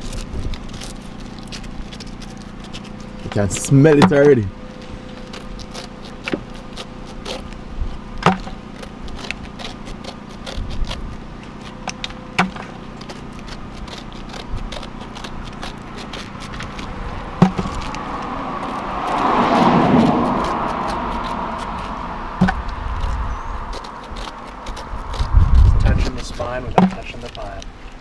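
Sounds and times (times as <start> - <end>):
passing vehicle: 0.0 - 27.7
knife cutting pineapple rind: 0.0 - 28.0.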